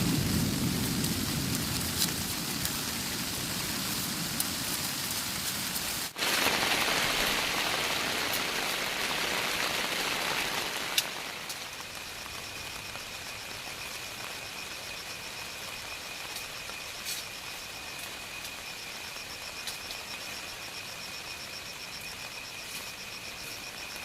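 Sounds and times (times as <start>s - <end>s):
steady rain falling: 0.0s - 24.0s
sharp raindrop clicks: 0.1s - 23.0s.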